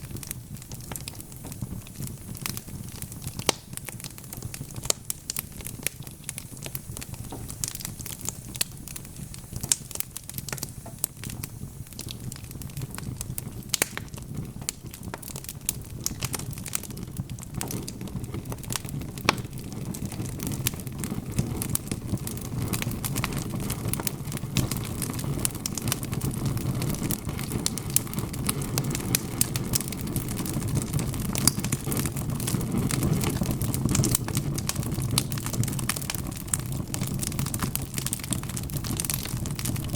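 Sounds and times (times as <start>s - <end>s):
flames rushing: 0.0s - 39.9s
wood fire crackling and popping: 0.0s - 39.9s.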